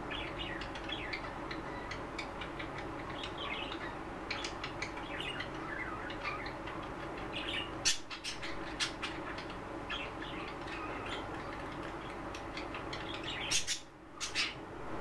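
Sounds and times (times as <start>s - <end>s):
budgerigars chirping and warbling: 0.1s - 14.6s.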